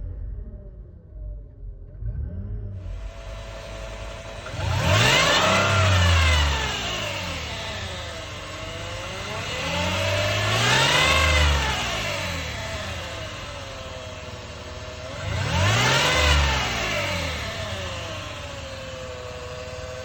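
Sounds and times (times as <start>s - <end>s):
car engine accelerating: 2.2s - 20.0s
high transmission whine: 2.8s - 20.0s.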